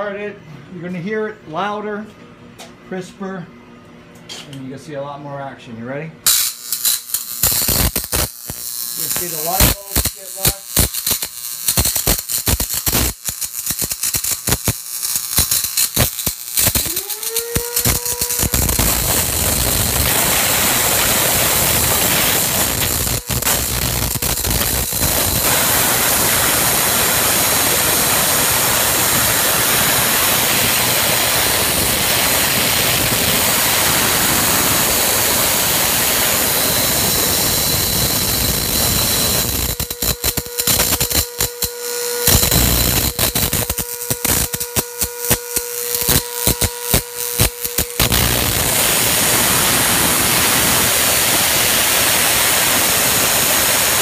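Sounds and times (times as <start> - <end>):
electric spark arcing hiss: 6.3 - 54.0.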